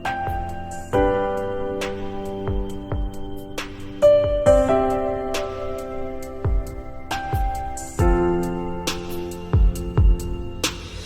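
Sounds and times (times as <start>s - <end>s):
instrumental music with soft drums: 0.0s - 11.0s.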